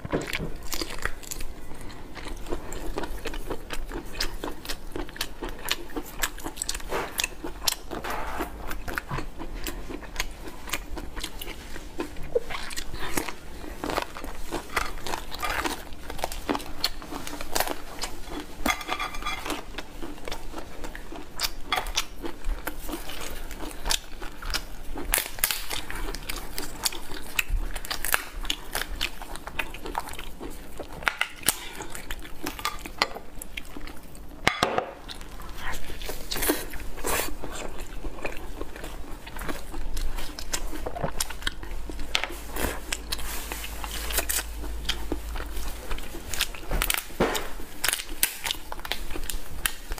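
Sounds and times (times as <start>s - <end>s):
close-up chewing: 0.0s - 49.9s.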